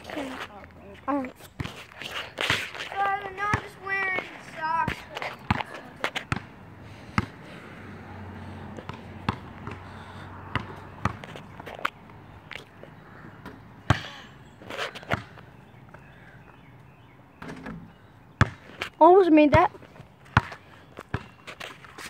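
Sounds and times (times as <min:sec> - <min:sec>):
basketball bouncing on asphalt: 0:00.0 - 0:22.0.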